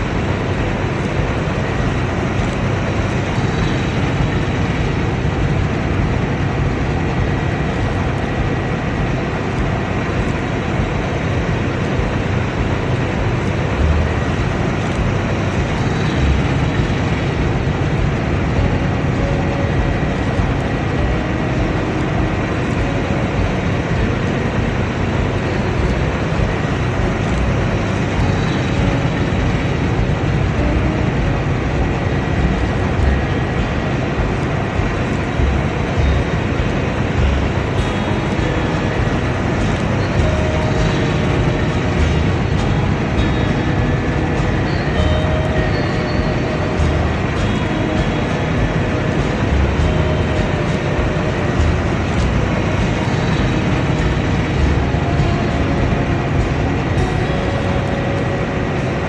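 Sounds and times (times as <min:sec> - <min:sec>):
combine harvester drone: 0:00.0 - 0:59.0
faint high whine: 0:00.0 - 0:59.0.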